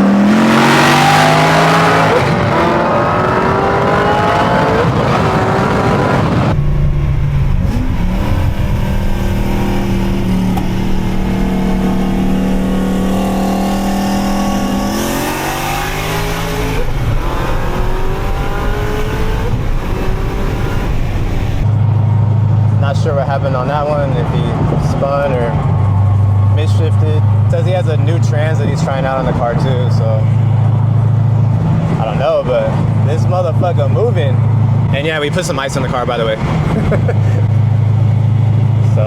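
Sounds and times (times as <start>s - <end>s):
car engine at full throttle: 0.0s - 39.0s.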